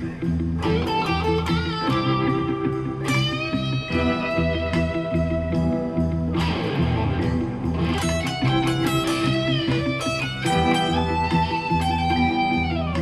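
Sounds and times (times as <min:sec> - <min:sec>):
guitar-led background music: 0:00.0 - 0:13.0.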